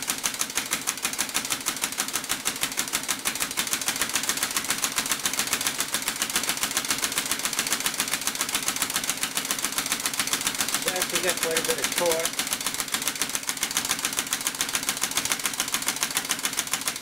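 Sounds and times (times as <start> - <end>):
air-powered chainsaw engine clattering: 0.0 - 17.0.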